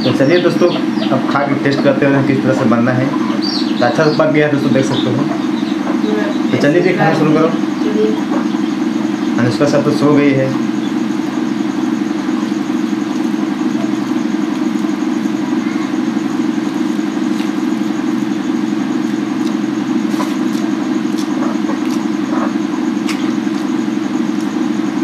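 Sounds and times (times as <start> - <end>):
motor-like drone: 0.0 - 25.0.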